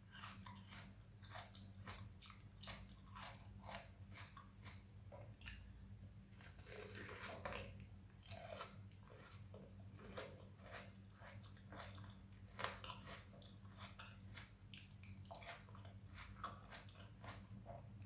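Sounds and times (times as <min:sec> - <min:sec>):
person chewing soft fruit: 0:00.0 - 0:18.0
steady low hum: 0:00.0 - 0:18.0.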